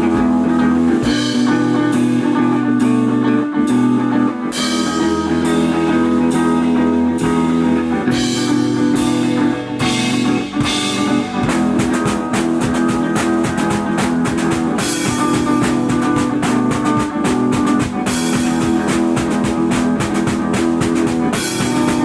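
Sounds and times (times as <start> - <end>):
drum kit: 0.0 - 22.0
guitar chords ringing: 0.0 - 22.0.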